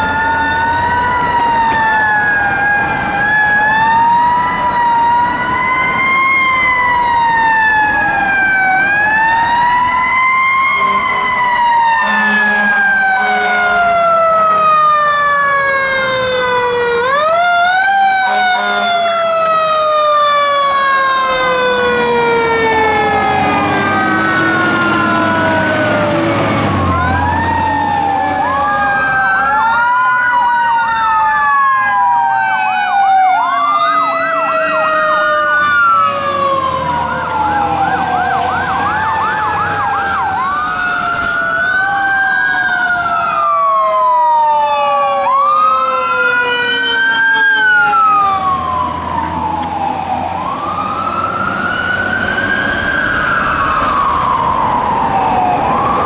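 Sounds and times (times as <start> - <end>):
electronic siren wailing: 0.0 - 56.0
mechanical siren winding down: 0.0 - 56.0
siren yelp: 0.0 - 56.0.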